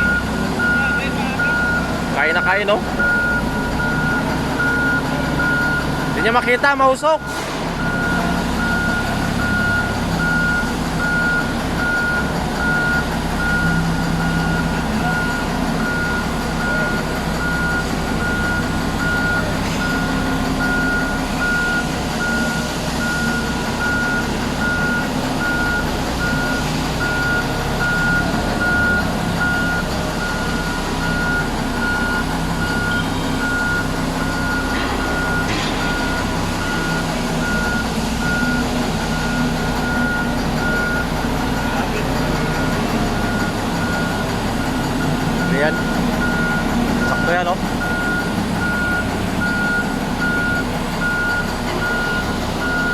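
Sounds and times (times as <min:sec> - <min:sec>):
diesel truck engine running: 0:00.0 - 0:52.9
reversing alarm beeping: 0:00.0 - 0:52.9.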